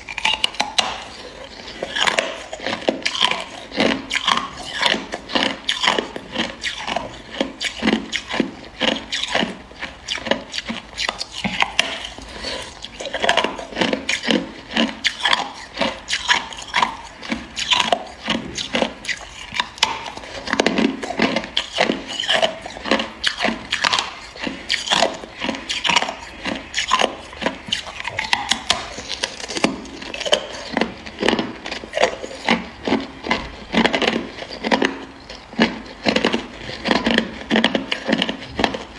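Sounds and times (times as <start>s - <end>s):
ice crunching being chewed: 0.0s - 38.9s.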